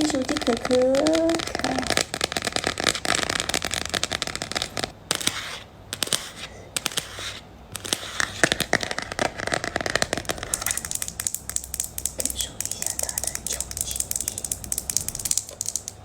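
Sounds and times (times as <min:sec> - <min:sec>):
fingernails tapping on hard object: 0:00.0 - 0:07.2, 0:07.8 - 0:16.0.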